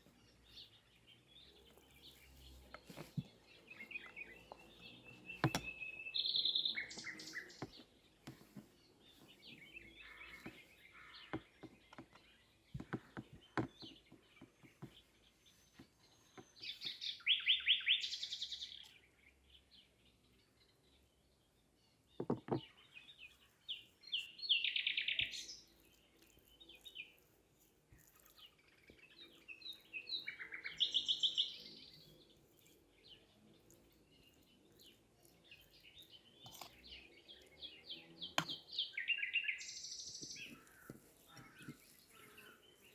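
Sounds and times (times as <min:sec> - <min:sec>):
songbird singing trilled phrases: 0:00.3 - 0:08.3, 0:09.1 - 0:21.2, 0:21.9 - 0:27.3, 0:28.3 - 0:42.9.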